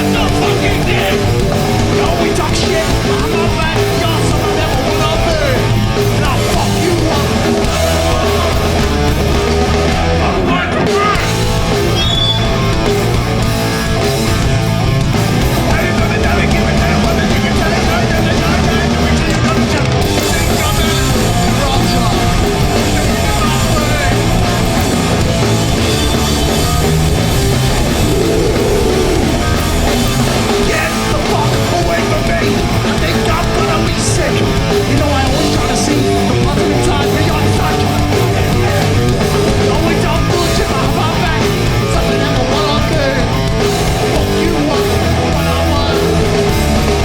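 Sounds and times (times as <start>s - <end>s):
punk band playing live: 0.0s - 47.0s.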